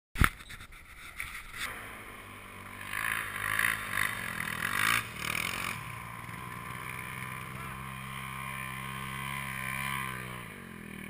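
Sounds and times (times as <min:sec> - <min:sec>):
quad engine running: 0:01.1 - 0:11.0.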